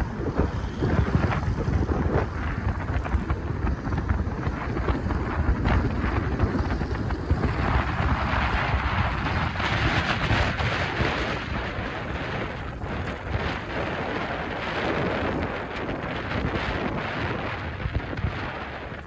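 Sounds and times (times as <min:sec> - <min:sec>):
motorcycle engines rumbling: 0:00.0 - 0:19.0
wind buffeting microphone: 0:00.0 - 0:19.0.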